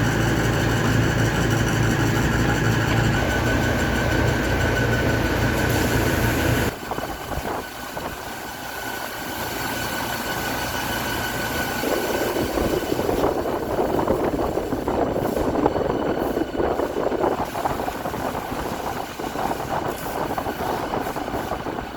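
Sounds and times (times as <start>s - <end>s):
cooler fan running: 0.0s - 21.9s
motor hum and whine: 0.0s - 21.9s.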